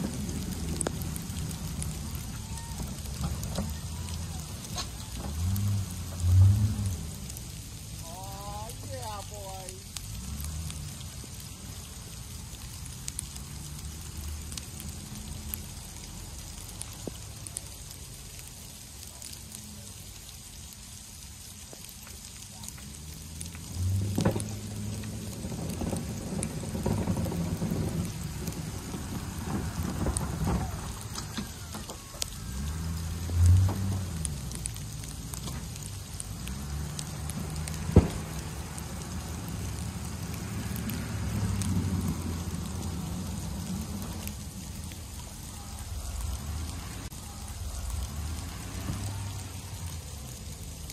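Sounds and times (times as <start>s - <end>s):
truck engines humming: 0.0s - 20.0s, 22.3s - 50.9s.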